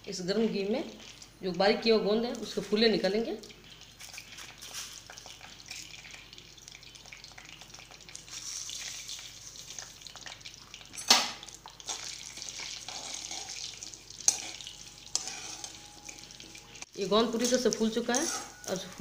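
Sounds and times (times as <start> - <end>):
gum sizzling in hot oil: 0.0 - 19.0.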